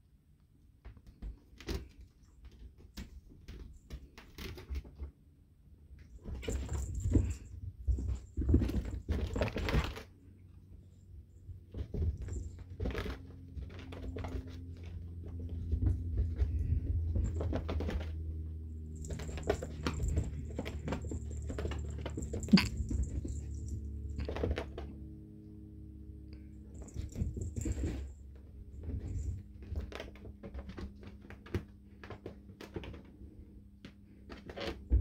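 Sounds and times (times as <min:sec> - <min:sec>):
cats' paws scrambling: 0:00.8 - 0:25.2, 0:26.3 - 0:35.0.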